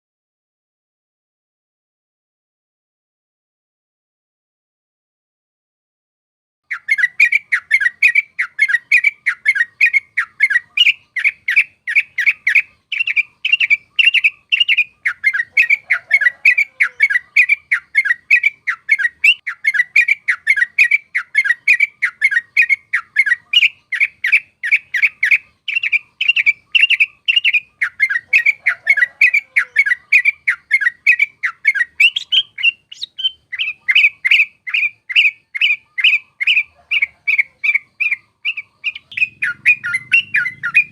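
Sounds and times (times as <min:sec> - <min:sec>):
bulbul singing: 0:06.7 - 0:40.9.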